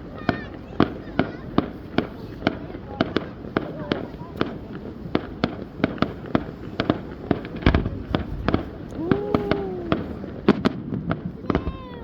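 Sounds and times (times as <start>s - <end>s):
fireworks bangs and crackles: 0.0s - 12.0s
deep firework boom: 0.2s - 12.0s.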